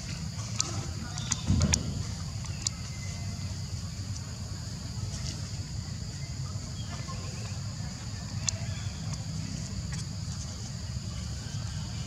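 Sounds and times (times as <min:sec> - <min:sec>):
high drone of insects: 0:00.0 - 0:12.0.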